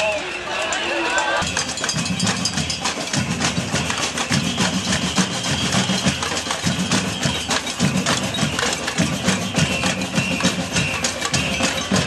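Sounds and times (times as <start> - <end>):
crowd banging pots and pans: 0.0 - 12.0
drumming on barrel drums: 1.4 - 12.0.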